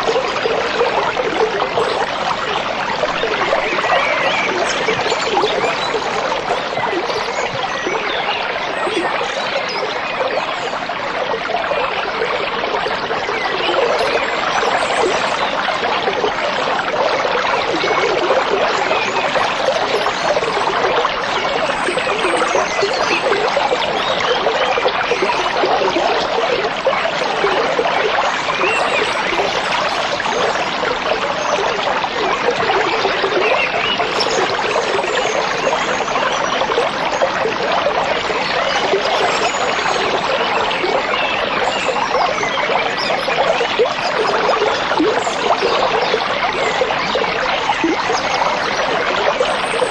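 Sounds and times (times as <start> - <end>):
stream babbling over stones: 0.0 - 49.9.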